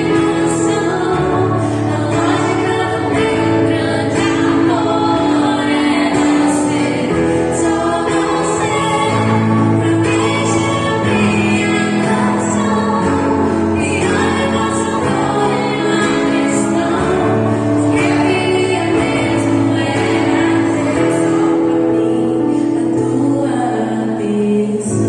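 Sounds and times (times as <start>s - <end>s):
instrumental backing: 0.0s - 25.0s
women singing gospel song: 0.0s - 25.0s.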